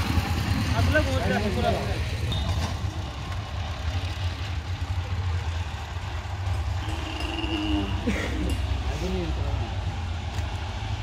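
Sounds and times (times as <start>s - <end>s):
engine idling: 0.0s - 10.5s.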